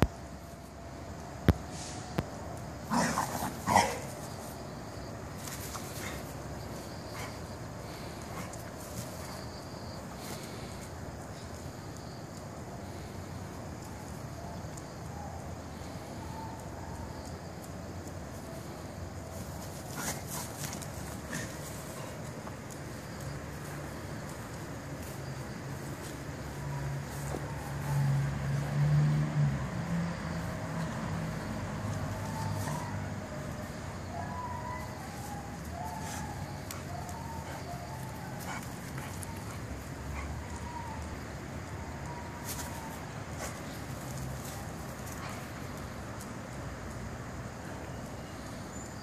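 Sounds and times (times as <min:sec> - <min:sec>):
distant traffic rumble: 0:00.0 - 0:49.0.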